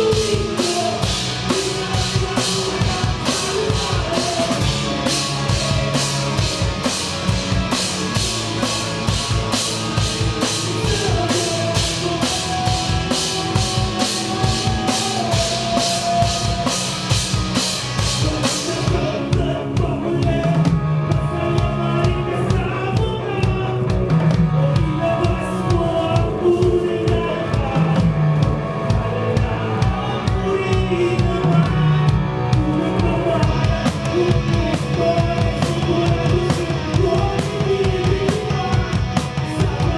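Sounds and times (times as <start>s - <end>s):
drum kit: 0.0s - 39.9s
live rock band playing: 0.0s - 39.9s.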